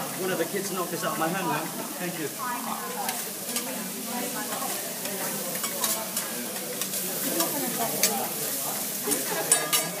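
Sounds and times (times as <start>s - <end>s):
meat sizzling on griddle: 0.0s - 10.0s.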